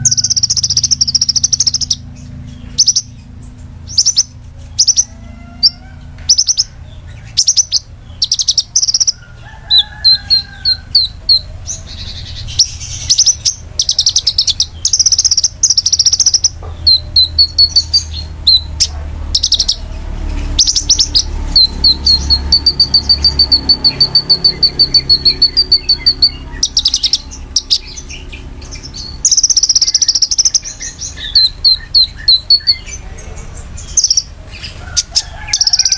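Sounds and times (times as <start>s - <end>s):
low steady hum: 0.0s - 35.6s
songbird trilling and chirping: 0.0s - 35.9s.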